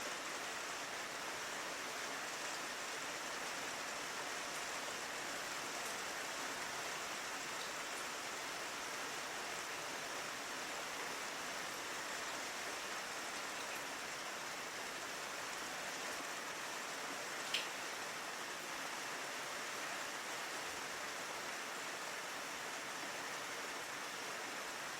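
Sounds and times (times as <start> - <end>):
rain pattering on a window: 0.0 - 24.9.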